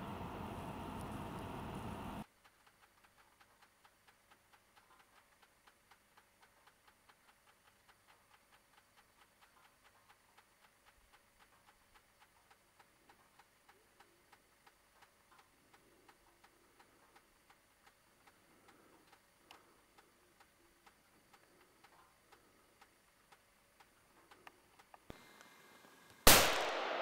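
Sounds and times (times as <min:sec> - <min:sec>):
faint even ticking: 0:00.0 - 0:25.3.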